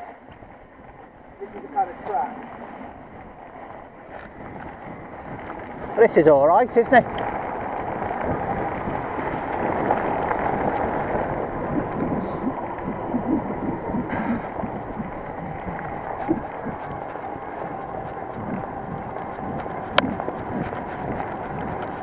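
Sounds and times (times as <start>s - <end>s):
bike tyres rolling on dirt: 0.0s - 22.0s
wind buffeting microphone: 0.0s - 22.0s.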